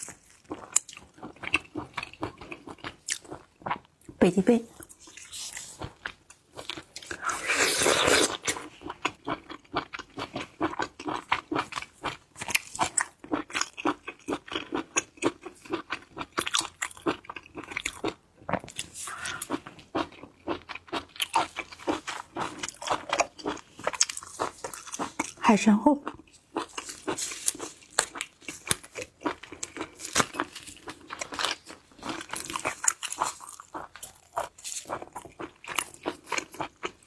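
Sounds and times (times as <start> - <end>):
mouth chewing crunchy food: 0.0 - 37.0.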